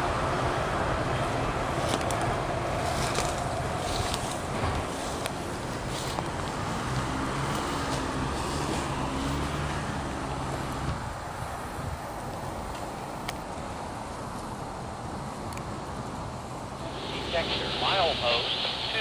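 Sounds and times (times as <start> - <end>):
outdoor background noise: 0.0 - 19.0
passing vehicle engine hum: 0.0 - 19.0.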